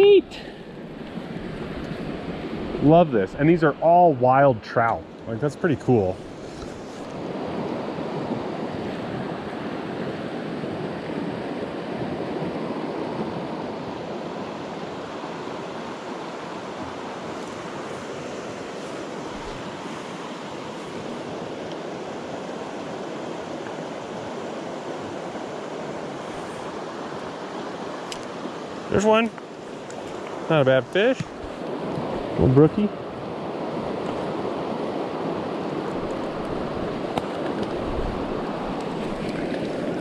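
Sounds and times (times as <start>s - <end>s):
creek water rushing: 0.0s - 40.0s.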